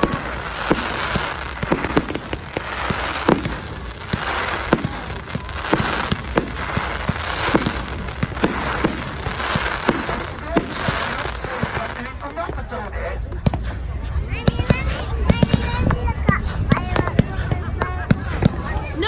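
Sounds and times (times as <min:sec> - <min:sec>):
continuous crackling hiss: 0:00.0 - 0:15.7
firework bangs: 0:00.0 - 0:18.8.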